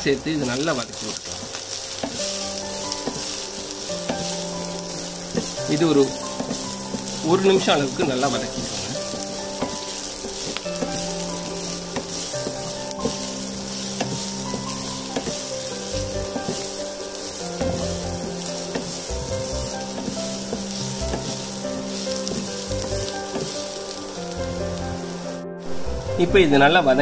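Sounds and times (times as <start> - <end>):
food sizzling in hot oil: 0.0 - 27.0
spatula scraping pan: 0.8 - 24.2.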